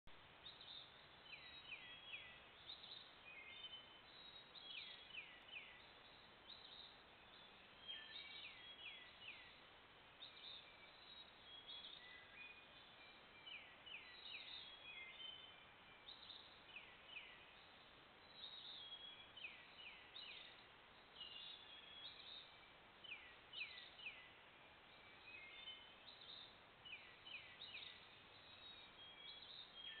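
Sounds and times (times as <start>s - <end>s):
birds chirping: 0.2s - 30.0s.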